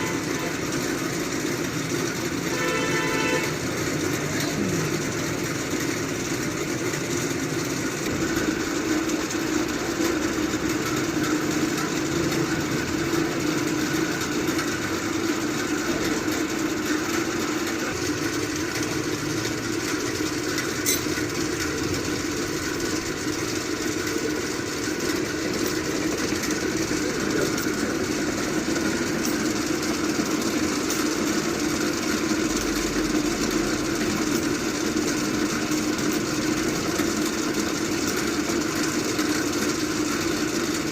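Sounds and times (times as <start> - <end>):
motor humming: 0.0 - 40.9.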